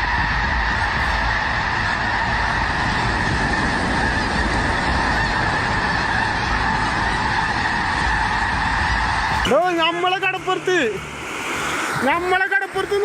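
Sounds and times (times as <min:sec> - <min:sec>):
flock of geese honking: 0:00.0 - 0:13.0.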